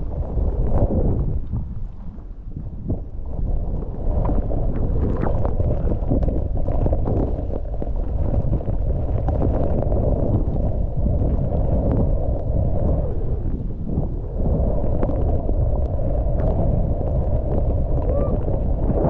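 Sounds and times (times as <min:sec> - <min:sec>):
muffled wind and snow roar: 0:00.0 - 0:19.0.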